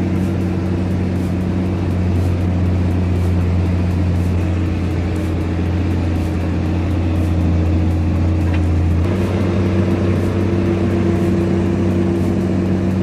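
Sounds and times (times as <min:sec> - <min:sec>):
heavy truck engine under load: 0:00.0 - 0:13.0.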